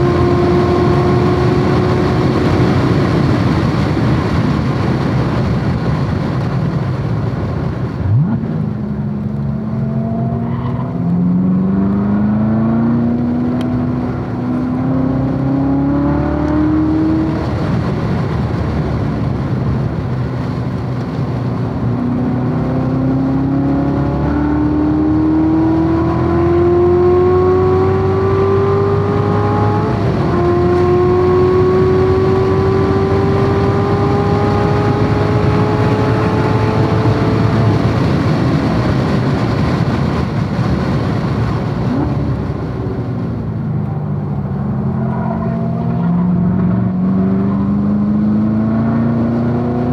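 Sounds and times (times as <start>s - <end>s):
car engine accelerating hard: 0.0s - 49.9s
wind and road noise: 0.0s - 49.9s.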